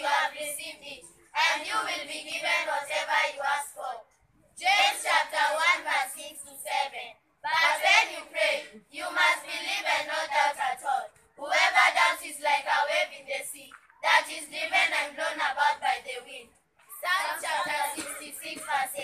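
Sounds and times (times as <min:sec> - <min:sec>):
children's choir singing: 0:00.0 - 0:04.0, 0:04.6 - 0:16.4, 0:17.0 - 0:19.0.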